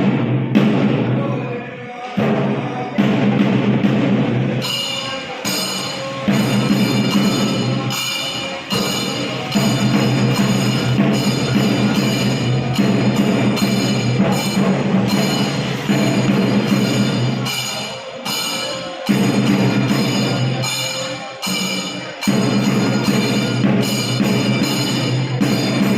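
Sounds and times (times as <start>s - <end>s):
drums beaten fast: 0.0s - 25.9s
metallic ringing of cymbals: 3.9s - 25.9s.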